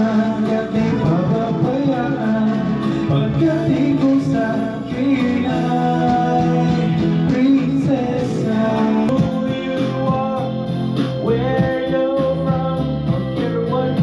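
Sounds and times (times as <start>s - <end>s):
karaoke backing track: 0.0s - 14.0s
man singing into a microphone: 0.0s - 14.0s.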